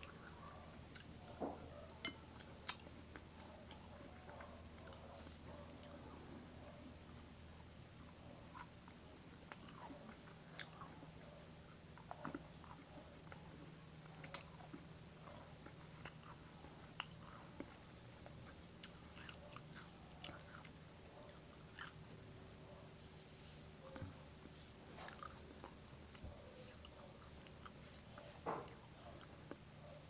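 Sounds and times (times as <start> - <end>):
chewing and crunching food: 0.0 - 30.0
low steady hum: 0.0 - 30.0.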